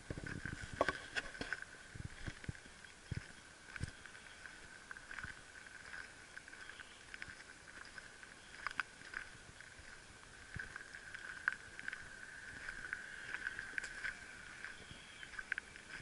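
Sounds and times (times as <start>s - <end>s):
high-pitched animal chorus: 2.2s - 16.0s.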